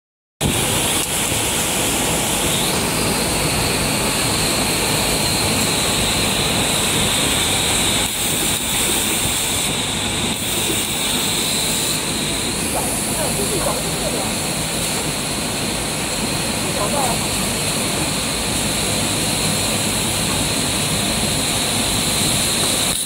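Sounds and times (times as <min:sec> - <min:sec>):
machinery hiss: 0:00.4 - 0:23.0.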